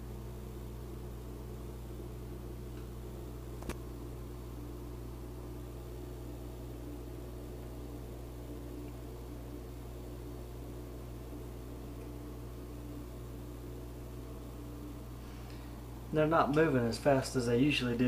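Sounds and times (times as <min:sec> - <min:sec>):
low hum with hiss: 0:00.0 - 0:18.0.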